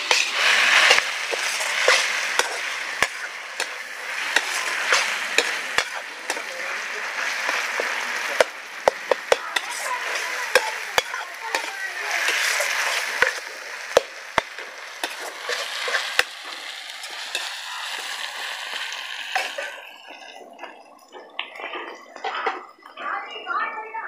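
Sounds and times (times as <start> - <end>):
metal skimmer scraping pan: 0.0 - 20.6
skimmer knocking against pan: 0.0 - 21.3
onions and tomatoes sizzling: 0.0 - 24.0.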